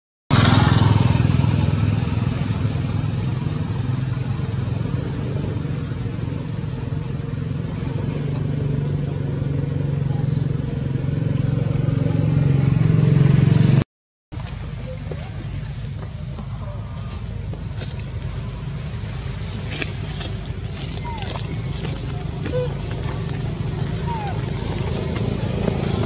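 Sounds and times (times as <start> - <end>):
engine humming: 0.3 - 26.0.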